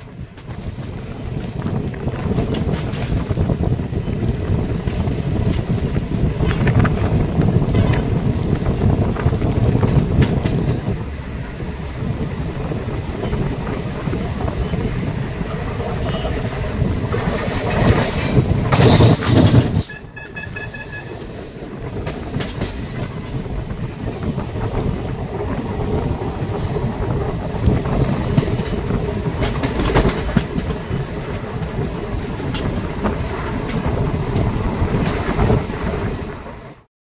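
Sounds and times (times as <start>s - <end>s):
rail joint clicks: 0.0s - 36.8s
train wheels rumbling on rails: 0.0s - 36.9s.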